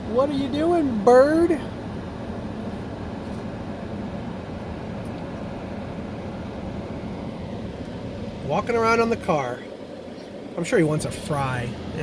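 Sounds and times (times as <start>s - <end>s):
car engine idling: 0.0s - 12.0s
car ventilation hiss: 0.0s - 12.0s.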